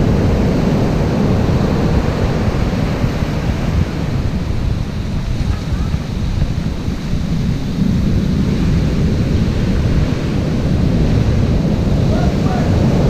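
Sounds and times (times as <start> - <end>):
storm surf breaking: 0.0 - 13.0
wind buffeting microphone: 0.0 - 13.0.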